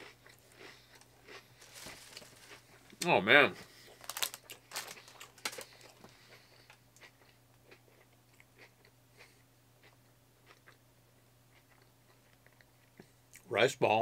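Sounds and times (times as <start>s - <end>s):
chewing crunchy food: 0.0s - 10.8s, 11.5s - 13.5s.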